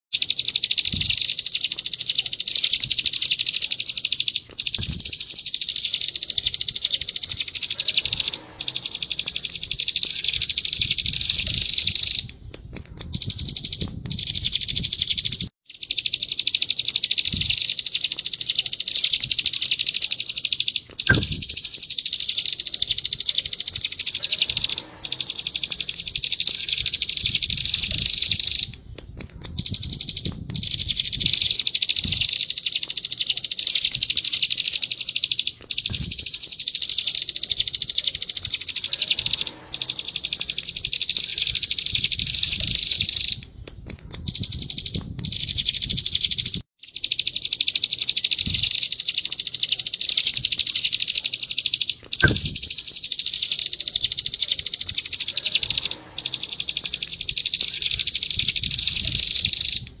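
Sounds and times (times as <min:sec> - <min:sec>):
bird chattering song: 0:00.1 - 1:00.0.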